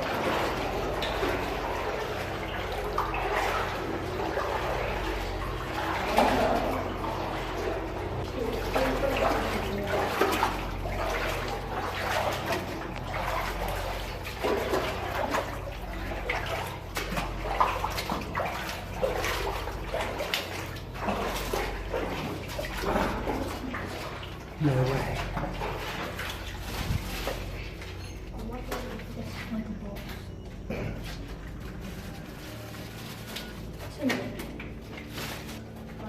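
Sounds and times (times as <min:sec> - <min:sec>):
water sloshing around wading legs: 0:00.0 - 0:36.0.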